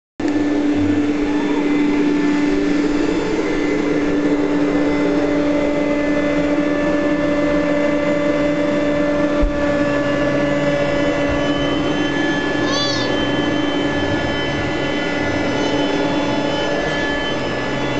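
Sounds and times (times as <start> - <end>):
vacuum cleaner running: 0.2 - 17.9.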